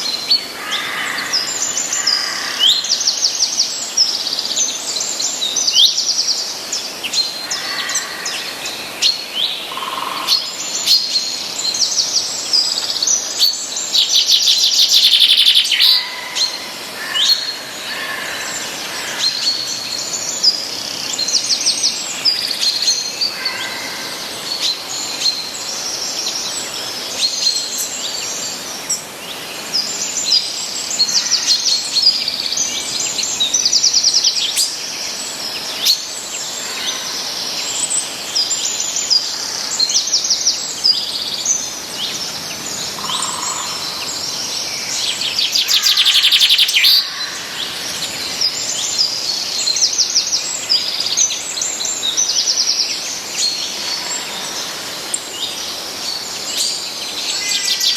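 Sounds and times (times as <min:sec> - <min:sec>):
faint steady hiss: 0:00.0 - 0:57.9
songbirds chirping and trilling: 0:00.0 - 0:57.9.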